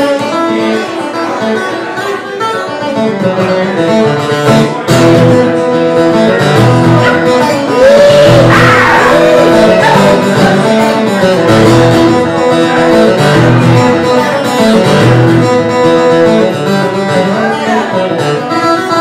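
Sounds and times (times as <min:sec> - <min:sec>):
acoustic guitar: 0:00.0 - 0:19.0
stage piano: 0:00.0 - 0:19.0.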